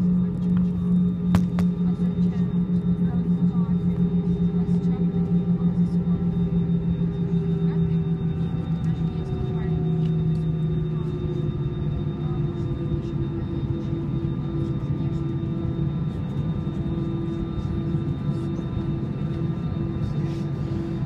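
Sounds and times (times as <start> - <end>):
jet engines humming in cabin: 0.0 - 21.0.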